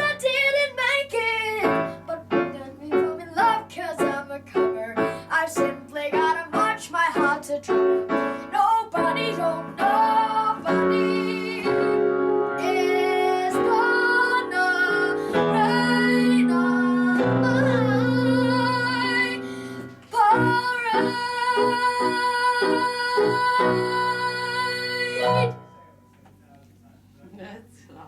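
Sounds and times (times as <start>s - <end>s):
woman singing: 0.0s - 25.6s.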